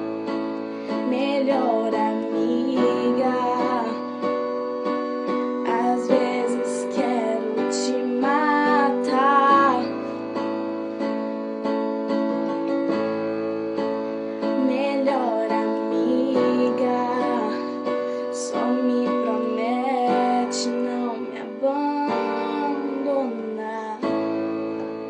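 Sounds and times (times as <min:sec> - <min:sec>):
pop song with guitar and keyboard: 0:00.0 - 0:25.0.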